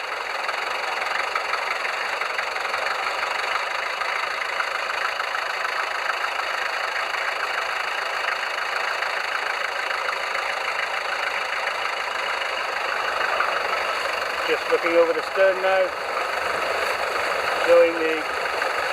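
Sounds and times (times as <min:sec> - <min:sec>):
boat engines idling: 0:00.0 - 0:18.9.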